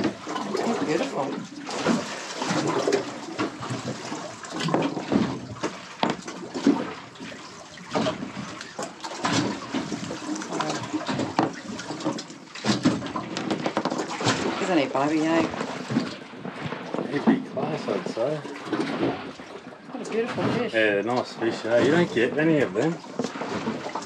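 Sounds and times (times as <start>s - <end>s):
water sloshing against a boat hull: 0.0s - 24.0s.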